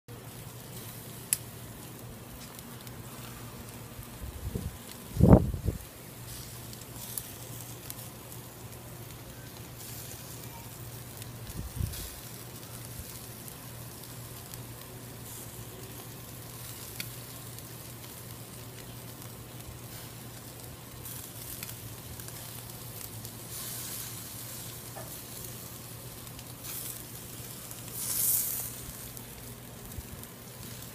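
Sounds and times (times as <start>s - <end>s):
meat sizzling on grill: 0.1s - 30.9s.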